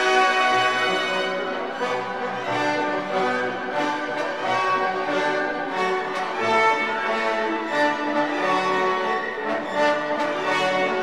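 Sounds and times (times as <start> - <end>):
orchestral music with strings and brass: 0.0 - 11.0.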